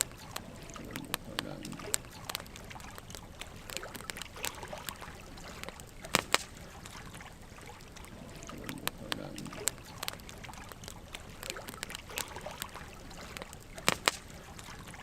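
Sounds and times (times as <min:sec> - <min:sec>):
wood logs crackling and popping: 0:00.0 - 0:15.0.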